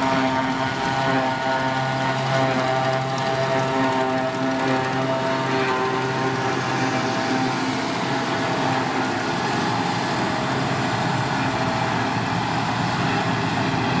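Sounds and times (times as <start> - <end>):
forage harvester chopping grass: 0.0 - 14.0.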